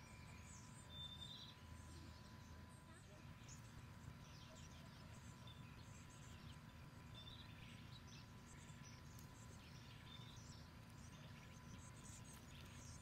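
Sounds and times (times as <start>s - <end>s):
low steady background rumble: 0.0s - 13.0s
songbirds chirping and whistling: 0.0s - 13.0s.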